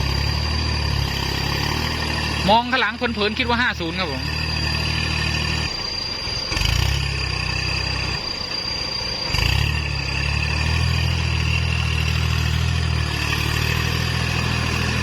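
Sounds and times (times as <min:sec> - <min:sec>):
steady high whine: 0:00.0 - 0:15.0
tractor diesel engine running: 0:00.0 - 0:15.0.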